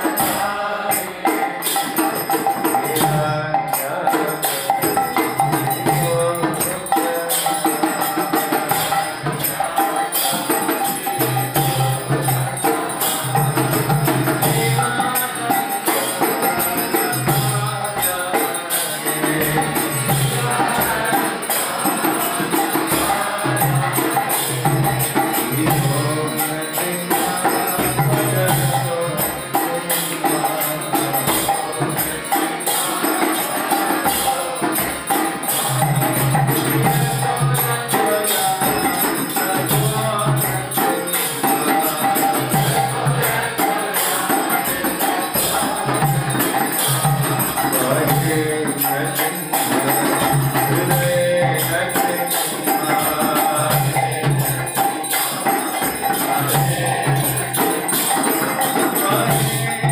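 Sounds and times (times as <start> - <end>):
drum beats: 0.0 - 59.9
hand cymbals ringing: 0.0 - 59.9
voices chanting: 0.0 - 59.9.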